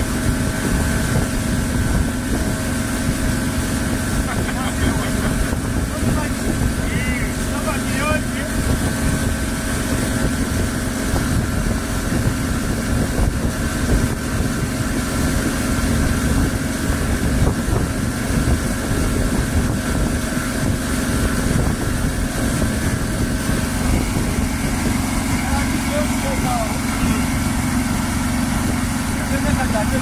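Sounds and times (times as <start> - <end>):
outboard motor running: 0.0 - 30.0
water rushing from wake: 0.0 - 30.0.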